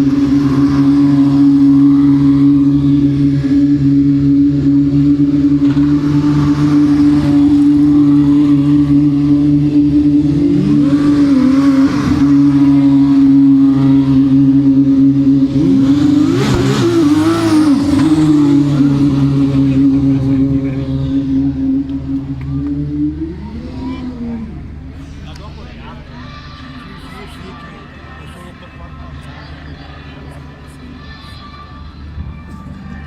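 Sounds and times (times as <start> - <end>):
race car engines droning: 0.0 - 33.0.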